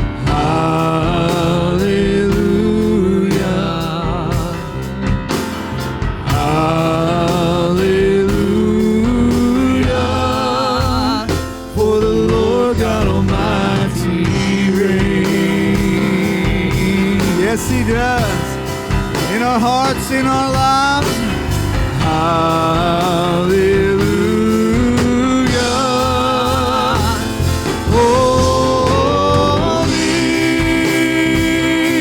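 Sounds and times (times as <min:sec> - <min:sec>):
band playing gospel song: 0:00.0 - 0:32.0
sustained singing with vibrato: 0:00.0 - 0:32.0.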